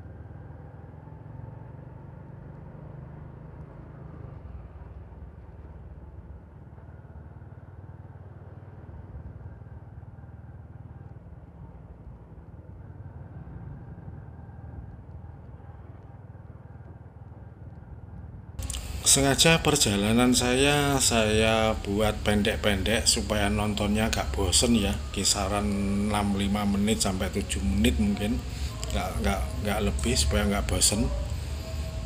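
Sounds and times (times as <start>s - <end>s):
motorcycle engine and road rumble: 0.0s - 32.0s.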